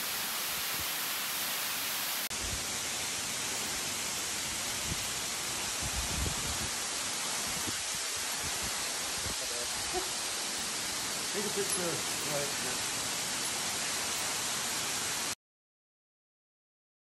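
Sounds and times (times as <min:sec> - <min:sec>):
steady rushing hiss: 0:00.0 - 0:15.4.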